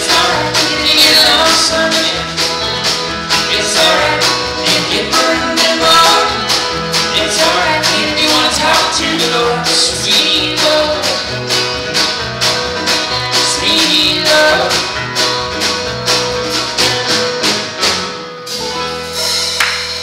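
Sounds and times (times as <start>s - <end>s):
country-rock band playing: 0.0s - 20.0s.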